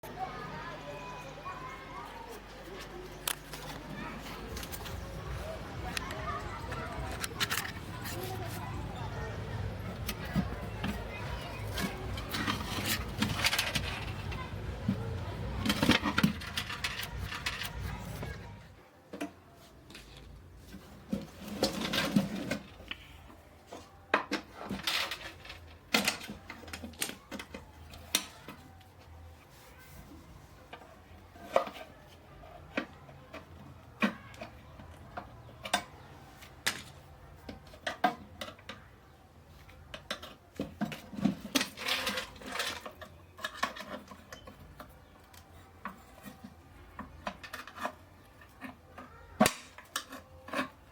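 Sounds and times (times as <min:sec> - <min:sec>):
small hard parts clicking and scraping: 0:02.0 - 0:50.9.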